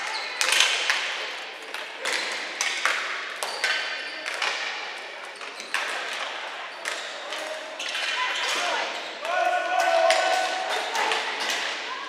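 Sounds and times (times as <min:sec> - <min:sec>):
hockey sticks clacking: 0:00.0 - 0:12.0.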